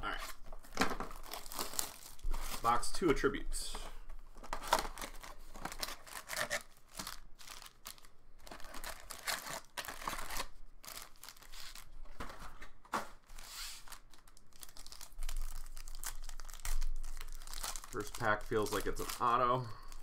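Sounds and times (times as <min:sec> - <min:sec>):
plastic wrapping crinkling and tearing: 0:00.1 - 0:03.0, 0:04.3 - 0:12.3, 0:13.2 - 0:20.0.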